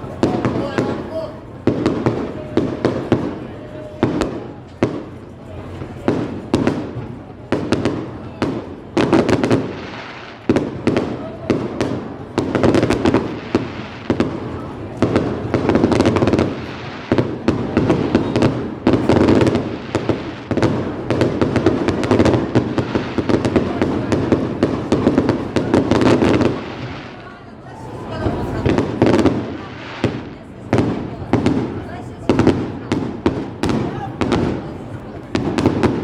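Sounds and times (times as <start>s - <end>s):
fireworks crackling: 0.0s - 36.0s
loud firework bangs: 0.0s - 36.0s.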